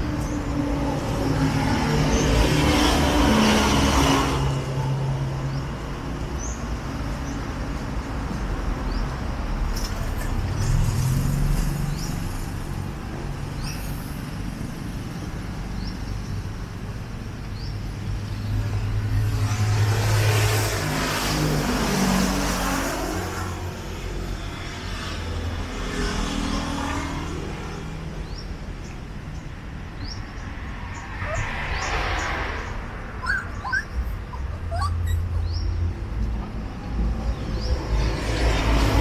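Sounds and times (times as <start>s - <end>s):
vehicle passing: 0.0s - 15.9s, 17.9s - 39.0s.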